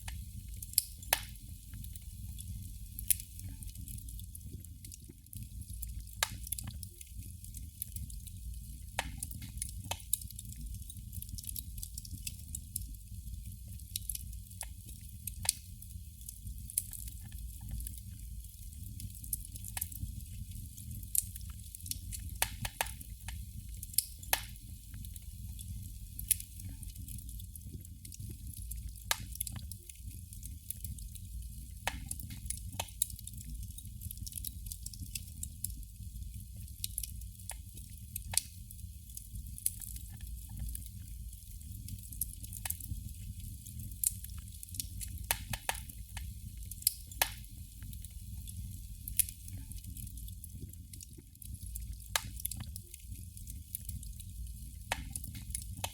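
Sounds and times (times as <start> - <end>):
candle flame crackling: 0.0 - 55.9.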